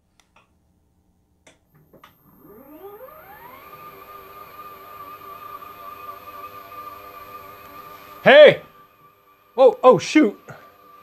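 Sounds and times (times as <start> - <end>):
electric desk motor whining: 1.6 - 11.0.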